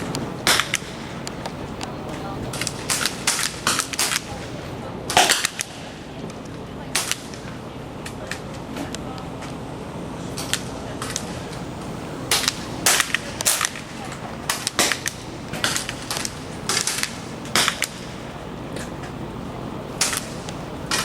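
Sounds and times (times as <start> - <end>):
air rifle shots cracking: 0.0 - 7.6, 10.4 - 21.0.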